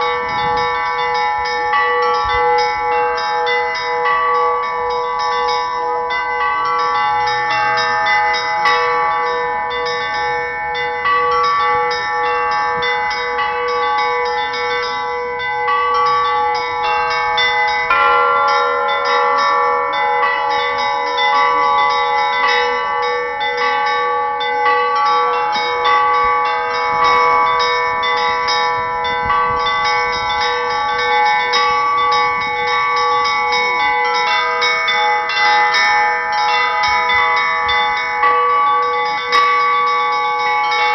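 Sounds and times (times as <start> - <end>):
deep church bells ringing: 0.0 - 40.9
high church bells: 0.0 - 40.9.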